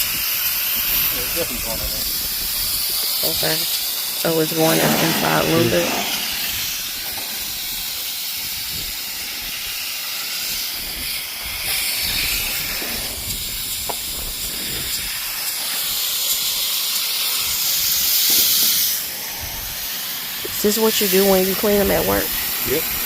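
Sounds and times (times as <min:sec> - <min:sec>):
hiss of spray: 0:00.0 - 0:23.0.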